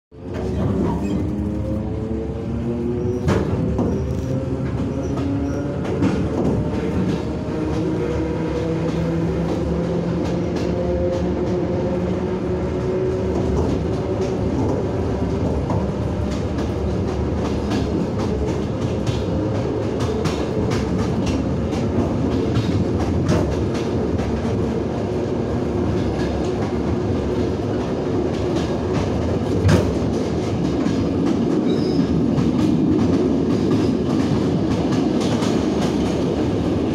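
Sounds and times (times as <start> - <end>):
train rumble inside carriage: 0.1 - 36.9
passing train rushing: 0.2 - 36.9.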